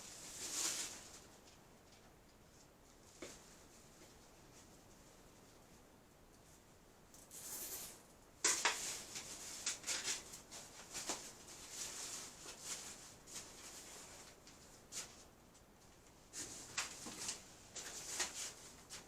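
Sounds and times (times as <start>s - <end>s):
rustling and scraping objects: 0.0s - 5.8s, 6.5s - 19.0s.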